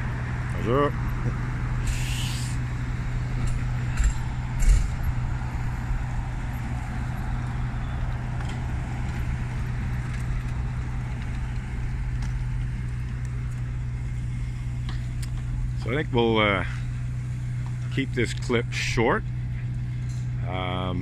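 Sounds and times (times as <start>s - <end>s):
motor traffic hum: 0.0s - 21.0s.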